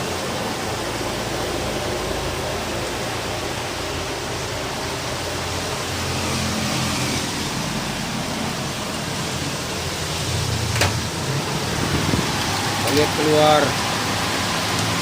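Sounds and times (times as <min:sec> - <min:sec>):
heavy rain: 0:00.0 - 0:15.0
strong wind: 0:00.0 - 0:15.0.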